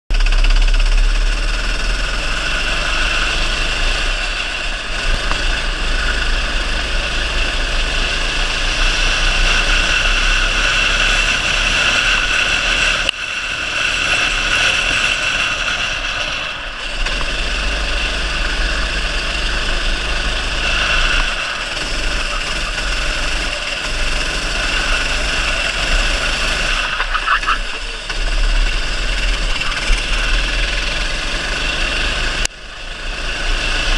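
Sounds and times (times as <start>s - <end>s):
kart engine running hard: 0.1s - 33.9s.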